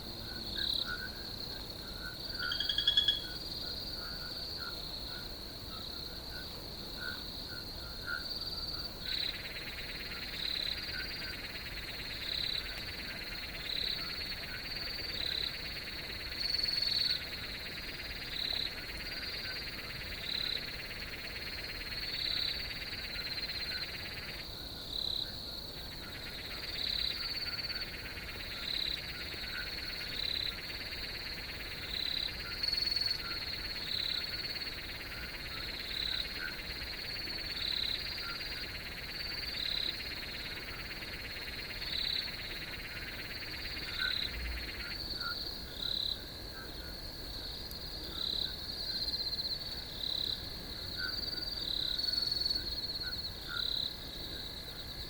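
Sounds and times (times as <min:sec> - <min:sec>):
crickets trilling: 0:00.0 - 0:55.0
lower cricket trill: 0:00.0 - 0:55.0.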